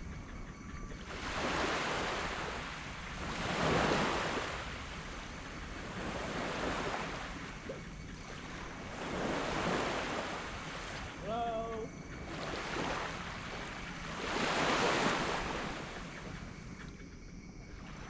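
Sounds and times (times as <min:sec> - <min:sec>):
small waves washing up sand beach: 0:01.1 - 0:16.3.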